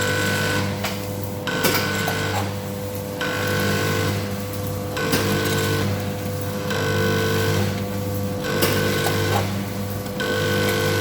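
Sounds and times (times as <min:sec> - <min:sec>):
machine motor hum: 0:00.0 - 0:11.0.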